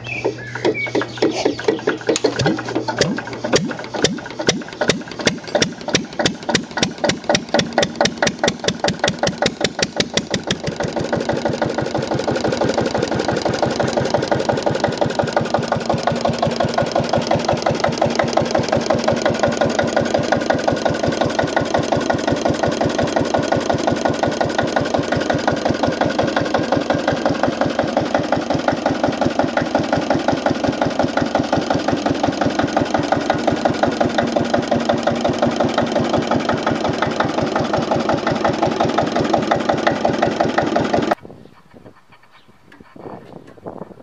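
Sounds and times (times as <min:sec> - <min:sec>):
diesel engine starting and running: 0:00.0 - 0:41.2.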